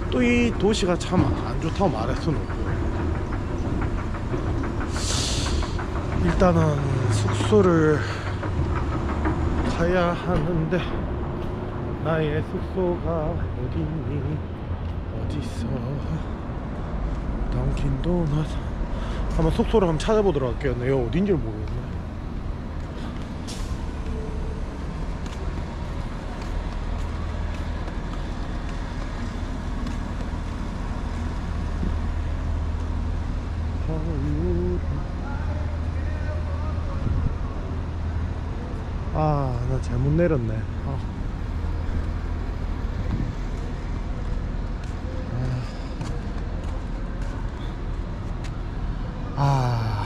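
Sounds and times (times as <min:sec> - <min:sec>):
low rumble of road traffic: 0:00.0 - 0:50.0.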